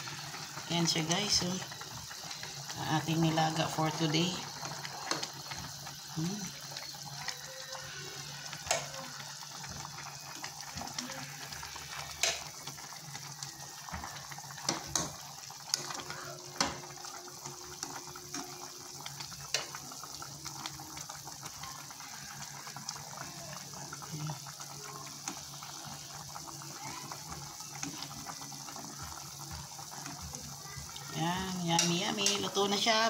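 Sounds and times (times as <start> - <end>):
soup boiling in a pot: 0.0 - 33.0.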